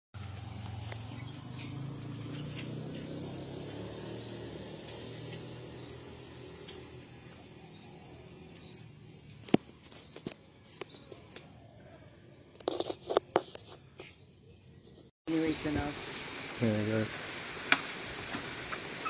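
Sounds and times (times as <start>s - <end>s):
birds chirping: 0.2s - 17.1s.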